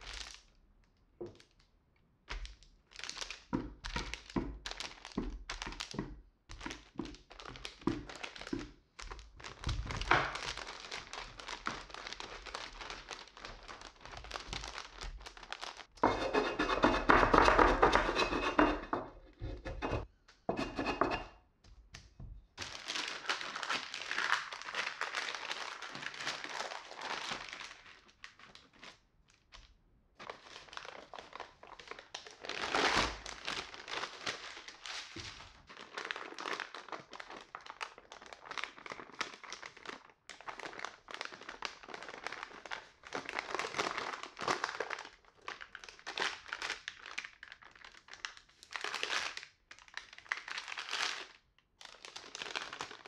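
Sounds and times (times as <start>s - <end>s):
baking paper crinkling: 0.0s - 0.5s, 2.3s - 20.1s, 22.6s - 53.0s.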